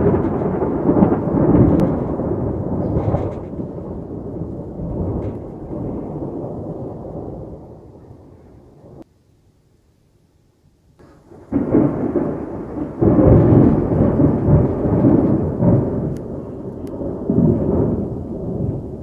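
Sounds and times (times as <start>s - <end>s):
loud rolling thunder: 0.0s - 9.1s, 11.0s - 19.0s.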